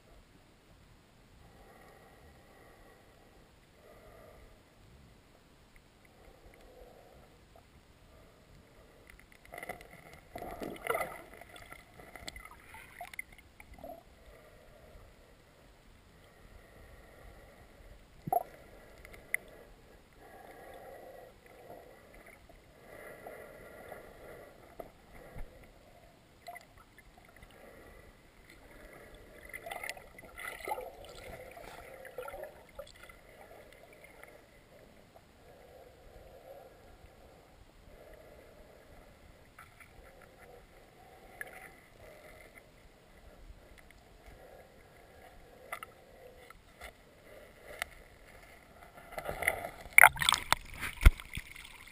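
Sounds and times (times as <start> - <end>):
muffled underwater river gurgling: 1.4 - 51.9.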